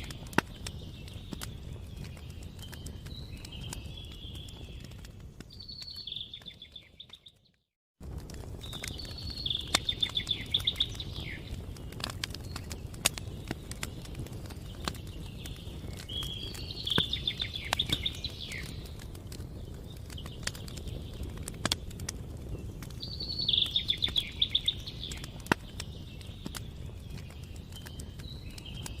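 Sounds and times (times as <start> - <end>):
birds chirping trills: 0.0 - 7.5, 8.4 - 29.0
wood fire crackling and popping: 0.0 - 29.0.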